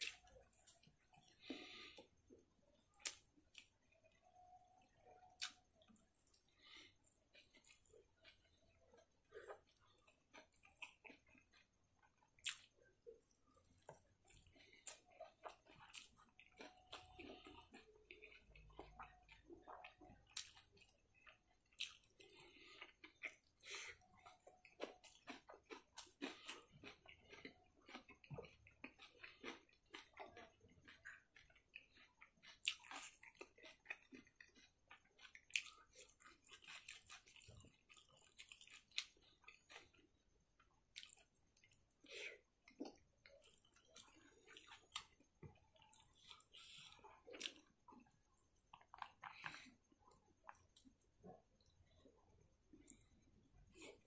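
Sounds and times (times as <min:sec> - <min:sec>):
person chewing wetly: 0:00.0 - 0:54.0.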